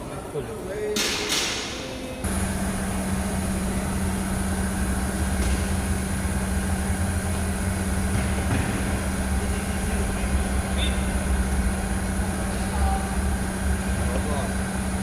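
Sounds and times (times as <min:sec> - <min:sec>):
car engine humming: 0:02.2 - 0:15.0.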